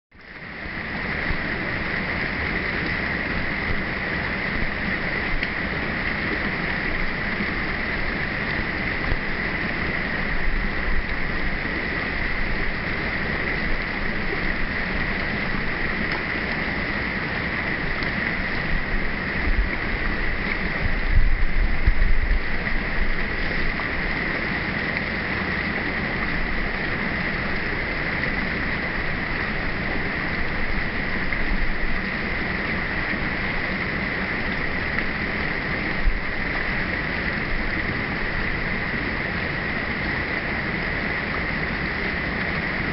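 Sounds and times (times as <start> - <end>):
wind rumbling on microphone: 0.1 - 42.9
waterfall roaring: 0.2 - 42.9.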